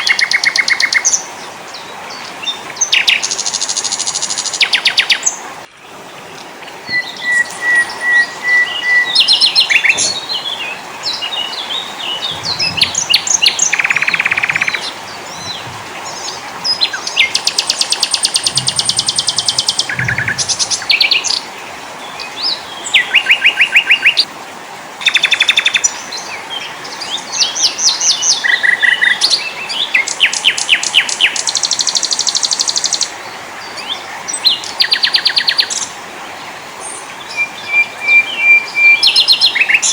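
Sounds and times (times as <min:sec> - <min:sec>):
songbirds trilling and whistling: 0:00.0 - 0:24.3, 0:25.0 - 0:39.9
steady background hiss: 0:00.0 - 0:39.9.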